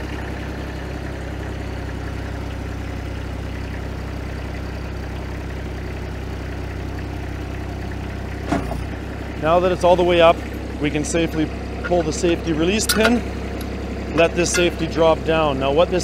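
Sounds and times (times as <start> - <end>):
skid steer engine running: 0.0 - 16.0.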